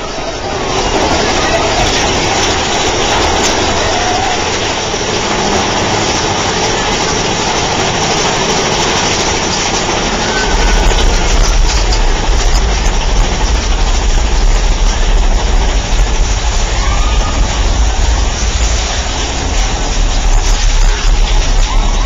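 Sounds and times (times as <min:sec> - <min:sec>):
roller coaster rumbling on track: 0:00.0 - 0:22.0.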